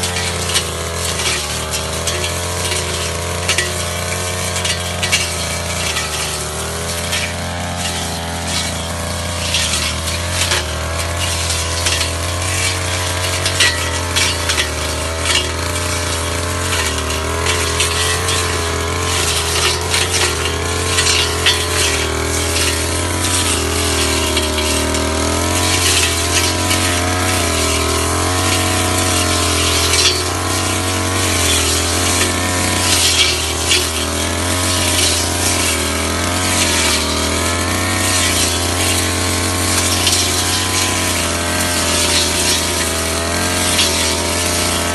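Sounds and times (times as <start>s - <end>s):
brush cutter engine running: 0.0s - 44.9s.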